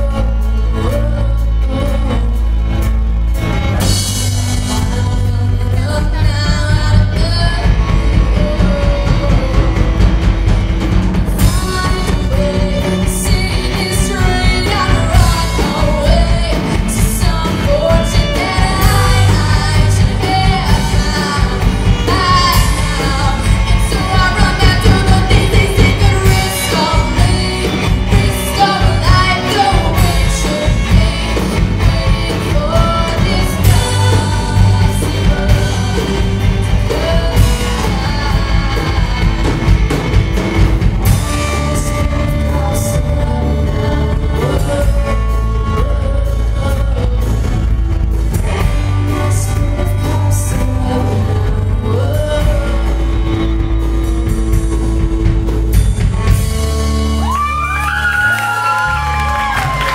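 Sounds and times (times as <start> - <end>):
person singing: 0.0 - 55.6
live rock band: 0.0 - 59.9
hard drum beat: 3.4 - 59.9.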